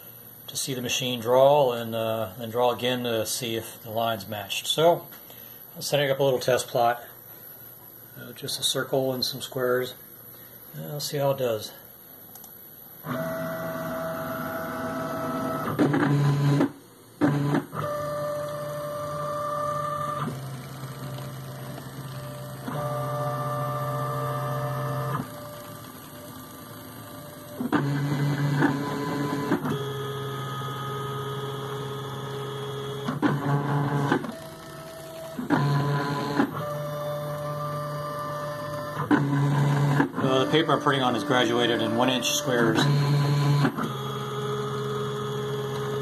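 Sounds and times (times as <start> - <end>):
motors humming whine: 0.0 - 46.0.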